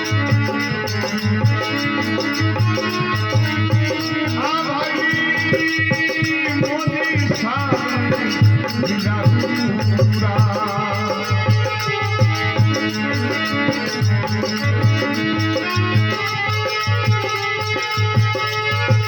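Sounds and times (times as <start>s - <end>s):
shaken rattling percussion: 0.0s - 19.0s.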